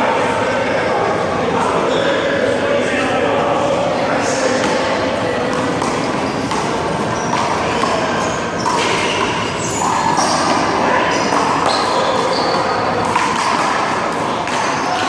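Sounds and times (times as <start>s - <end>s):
chatter of voices: 0.0s - 15.0s.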